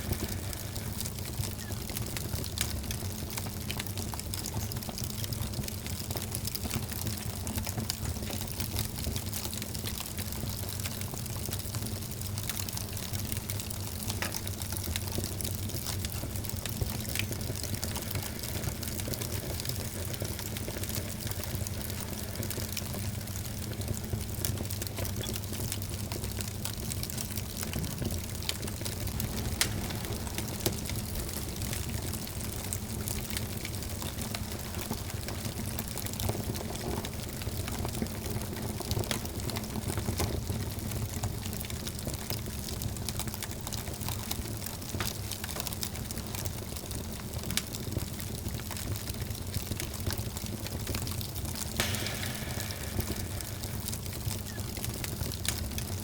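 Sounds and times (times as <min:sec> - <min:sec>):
logs crackling and popping: 0:00.0 - 0:56.0
wood fire burning: 0:00.0 - 0:56.0.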